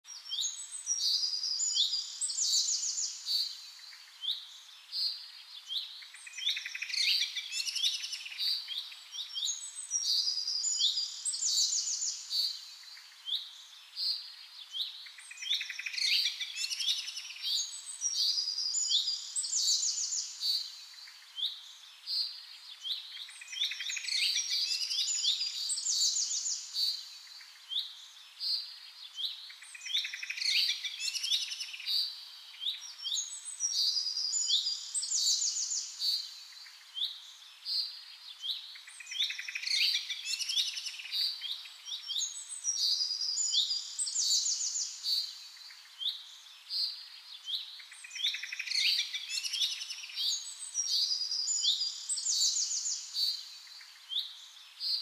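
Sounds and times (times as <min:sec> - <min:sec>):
small songbirds chirping: 0:00.0 - 0:55.0.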